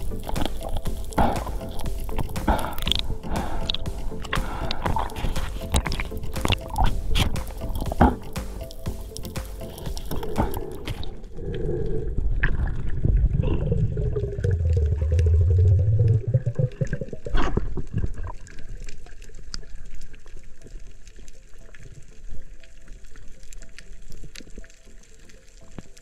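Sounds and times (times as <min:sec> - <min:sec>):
faint clicks underwater: 0:00.0 - 0:13.2, 0:14.1 - 0:26.0
underwater rushing: 0:00.0 - 0:26.0.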